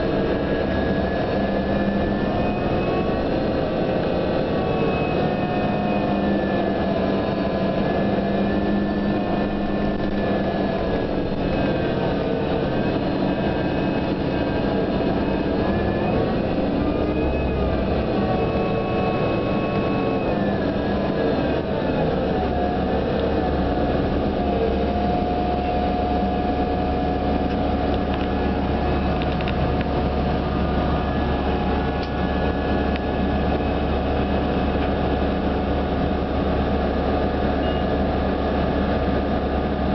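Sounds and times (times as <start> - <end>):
bus drivetrain whine: 0.0 - 39.9.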